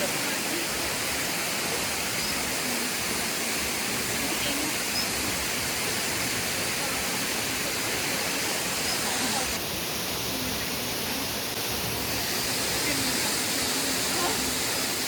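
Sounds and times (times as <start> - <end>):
waterfall pouring onto rocks: 0.0 - 15.0.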